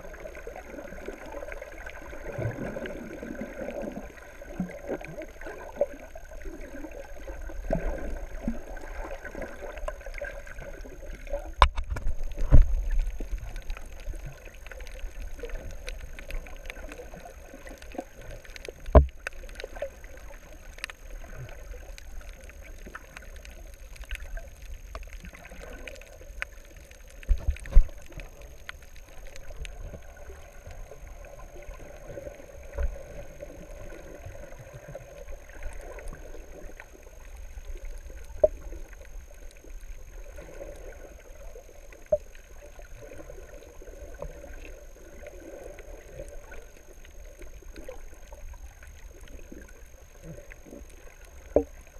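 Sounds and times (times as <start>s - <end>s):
underwater rumble of moving water: 0.0s - 51.9s.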